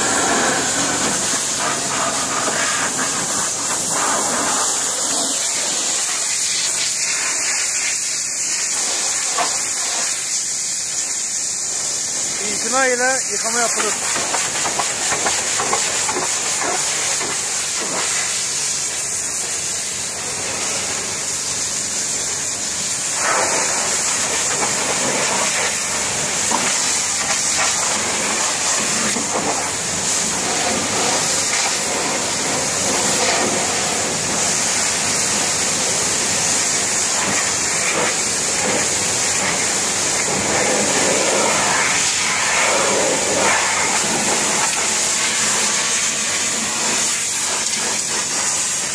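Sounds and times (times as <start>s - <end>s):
pressure washer jet hissing: 0.0s - 48.9s.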